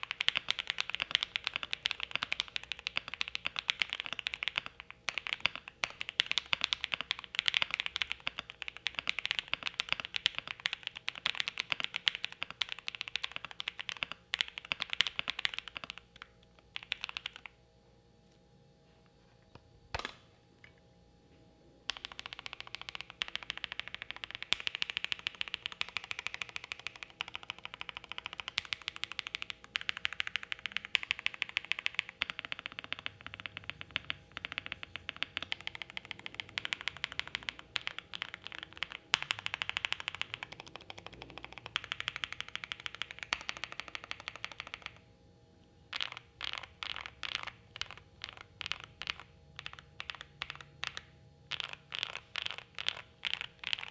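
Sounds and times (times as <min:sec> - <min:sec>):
mechanical keyboard typing: 0:00.0 - 0:17.6, 0:21.9 - 0:45.1, 0:45.9 - 0:53.9.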